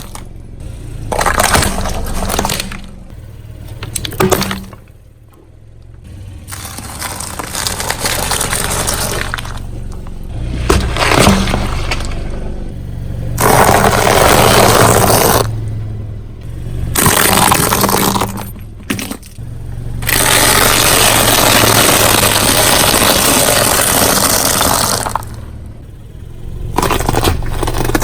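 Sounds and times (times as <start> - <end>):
car engine humming: 0.0 - 28.0
car tyre crushing objects: 0.0 - 28.0.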